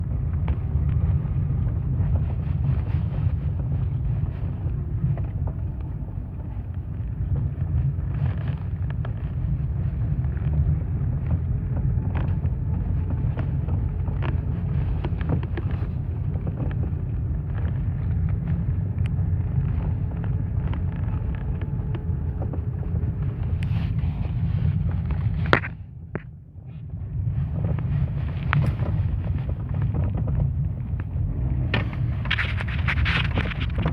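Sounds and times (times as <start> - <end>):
low road rumble: 0.0 - 33.9.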